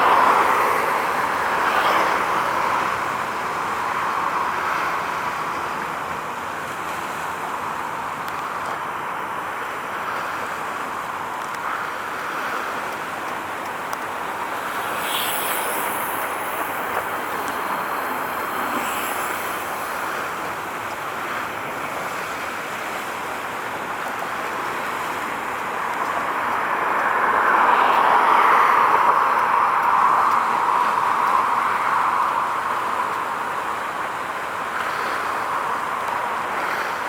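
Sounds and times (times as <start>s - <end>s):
passing traffic rushing: 0.0s - 37.0s.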